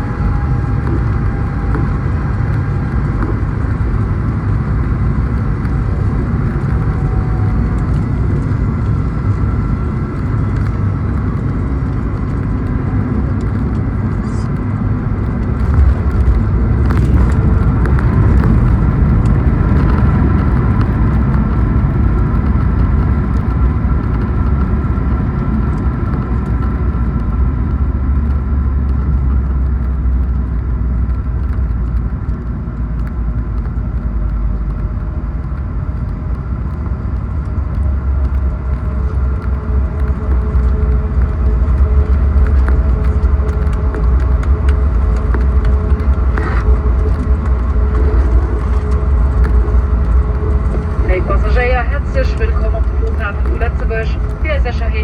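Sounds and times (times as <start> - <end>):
faint whining tones: 0.0 - 26.7, 36.6 - 55.0
airliner cabin rumble: 0.0 - 55.0.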